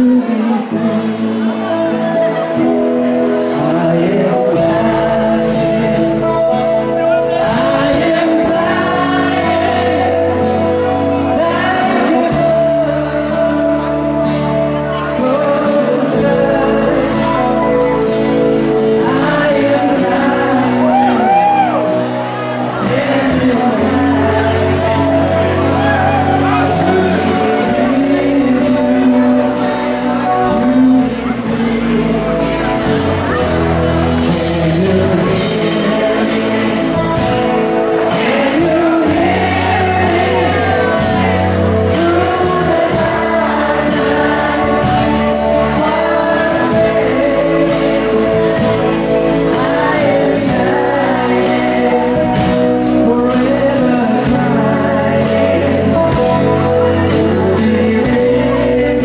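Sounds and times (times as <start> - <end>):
country band playing: 0.0 - 59.0.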